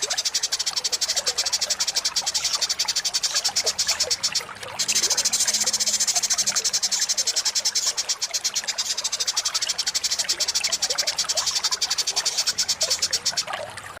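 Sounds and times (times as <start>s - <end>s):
pulsing insect trill: 0.0s - 13.4s.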